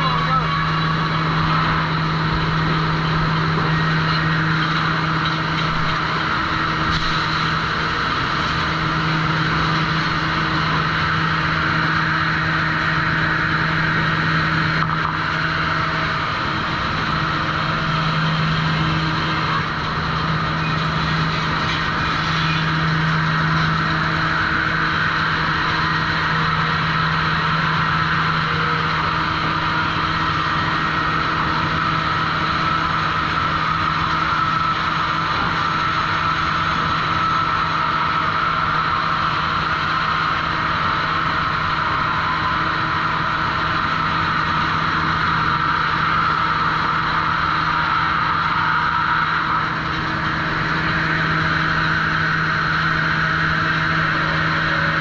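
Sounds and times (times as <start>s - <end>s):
loud machinery hiss: 0.0s - 55.0s
sawmill machinery hum: 0.0s - 55.0s.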